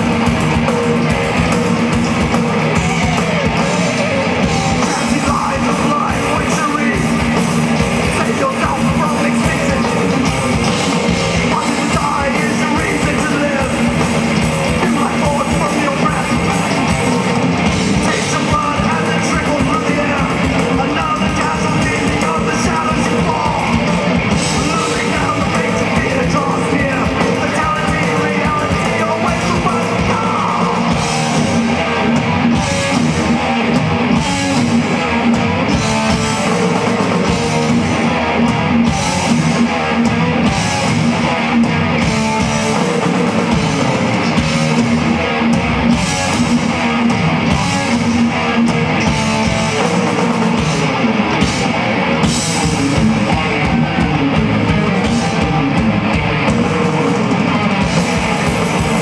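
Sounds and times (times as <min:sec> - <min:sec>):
distorted electric guitars: 0:00.0 - 0:59.0
drum kit: 0:00.0 - 0:59.0.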